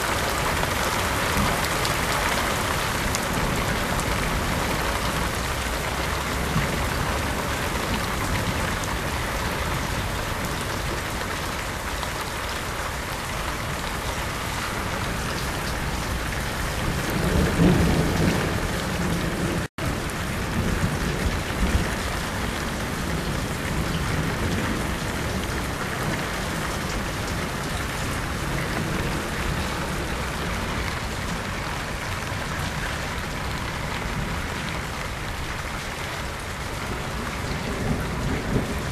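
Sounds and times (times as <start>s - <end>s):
heavy rain falling: 0.0s - 38.9s
thunder rumbling: 0.0s - 38.9s.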